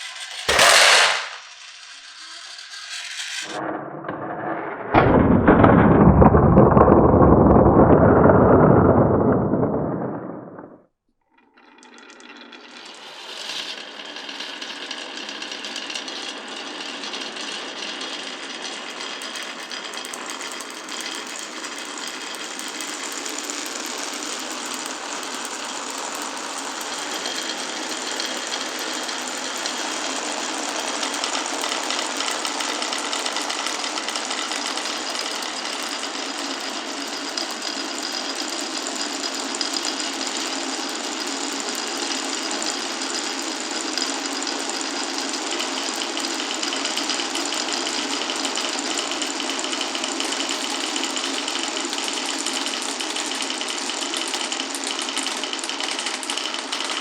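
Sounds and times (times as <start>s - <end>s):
glass marbles rattling through marble run: 0.0s - 10.5s, 11.4s - 57.0s.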